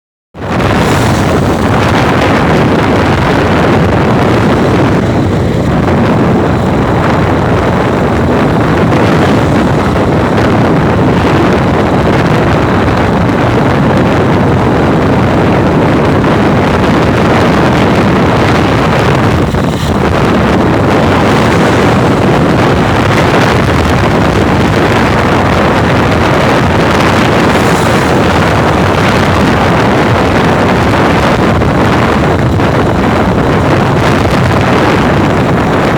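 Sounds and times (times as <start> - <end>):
motorbike engine and road noise: 0.4 - 35.9
wind buffeting microphone: 0.4 - 35.9.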